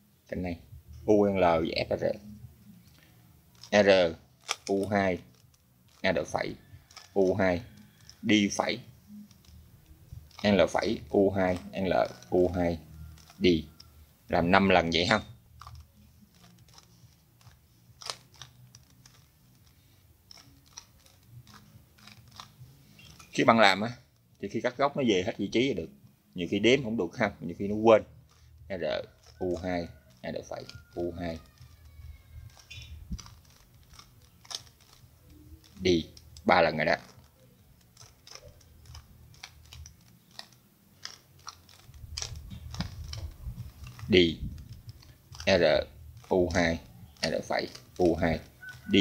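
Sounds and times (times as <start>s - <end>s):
faint plastic puzzle clicks: 1.9s - 24.8s, 27.4s - 49.0s.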